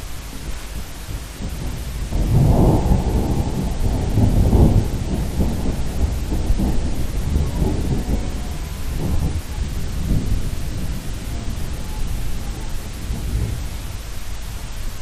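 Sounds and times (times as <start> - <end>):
rain hiss: 0.0 - 15.0
thunder rumbling: 0.0 - 15.0.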